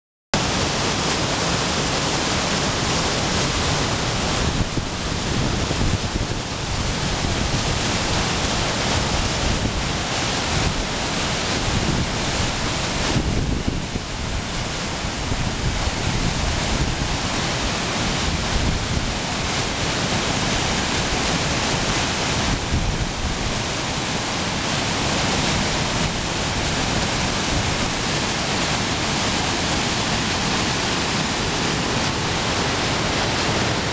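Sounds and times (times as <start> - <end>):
waterfall rushing over rocks: 0.4 - 33.9.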